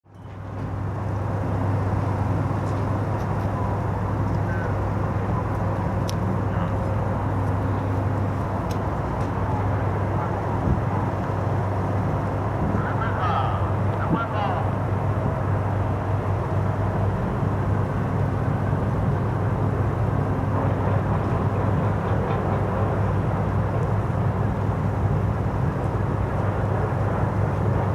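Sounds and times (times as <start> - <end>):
ship engines humming: 0.2 - 27.9.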